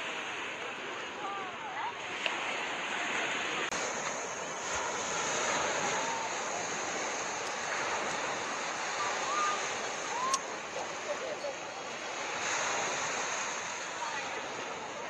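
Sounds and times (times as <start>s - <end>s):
faint voices: 0.0s - 15.0s
sea water rushing: 0.0s - 15.0s
wind: 0.0s - 15.0s.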